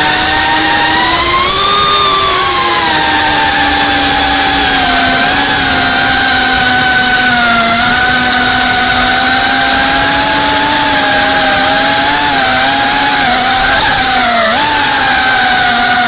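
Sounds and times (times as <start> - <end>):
drone propellers buzzing whine: 0.0 - 16.0.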